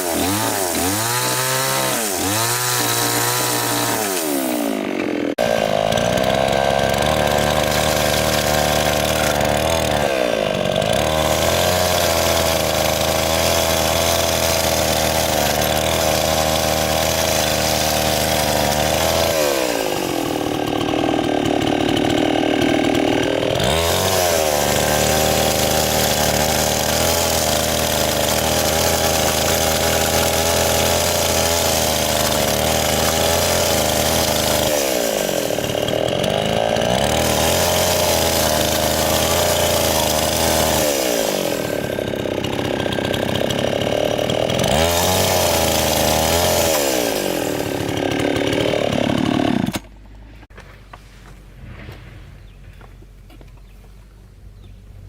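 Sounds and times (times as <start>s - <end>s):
chainsaw running: 0.0s - 50.5s.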